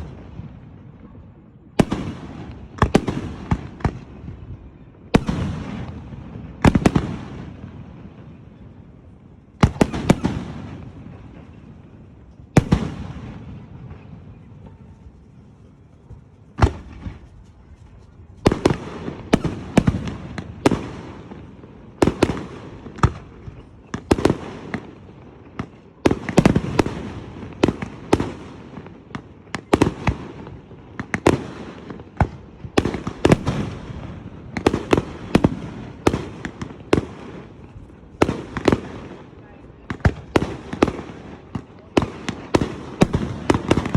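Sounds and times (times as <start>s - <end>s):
fireworks bursting with echoing bangs: 0.0s - 17.5s, 18.4s - 43.9s.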